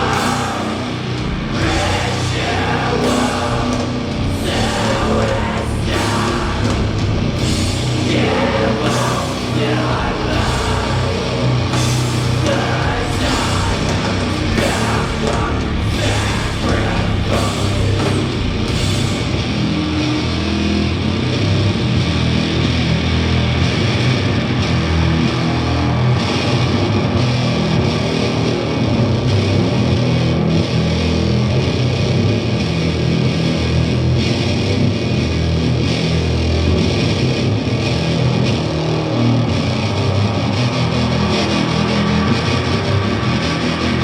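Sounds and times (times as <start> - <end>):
bass: 0.0 - 44.0
distorted guitars: 0.0 - 44.0
drums: 0.0 - 44.0.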